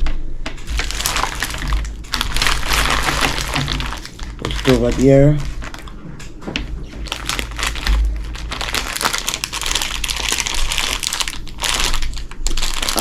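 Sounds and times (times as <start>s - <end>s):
plastic wrapper crinkling: 0.7s - 13.0s.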